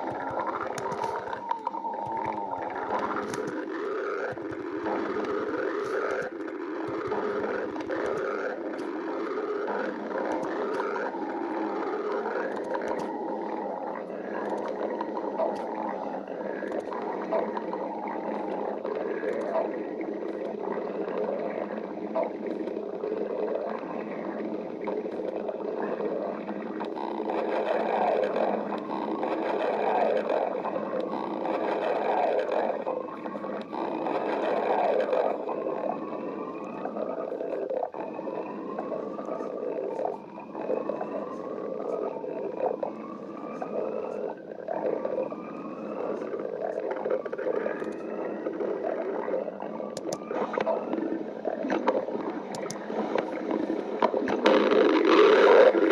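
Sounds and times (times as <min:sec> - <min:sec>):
stomach growling and gurgling: 0:00.0 - 0:55.9.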